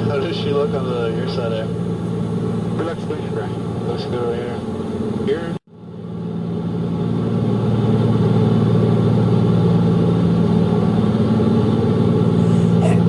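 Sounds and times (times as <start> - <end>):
radial piston engines droning: 0.0 - 13.0.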